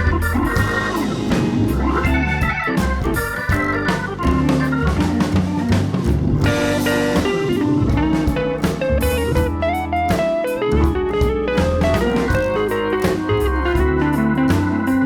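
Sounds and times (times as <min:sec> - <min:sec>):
plucked guitar melody: 0:00.0 - 0:15.0
steady drum beat: 0:00.0 - 0:15.0.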